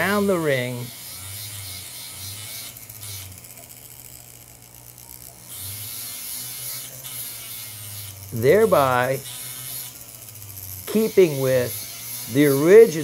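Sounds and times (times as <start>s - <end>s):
abrasive disc grinding metal: 0.0s - 3.6s, 5.4s - 13.0s
rotary tool motor hum: 0.0s - 13.0s.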